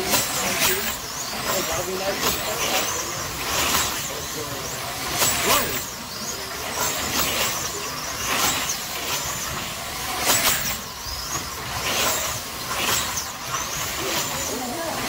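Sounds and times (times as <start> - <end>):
slot car motors whining: 0.0 - 15.0.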